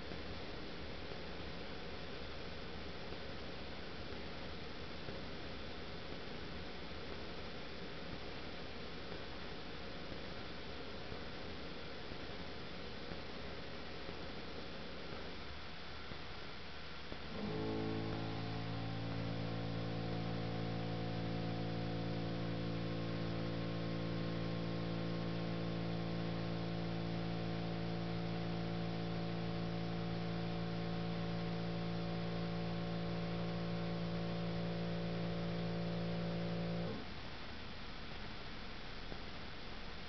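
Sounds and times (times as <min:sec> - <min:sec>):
constant hiss: 0:00.0 - 0:40.0
electrical mains hum: 0:00.0 - 0:40.0.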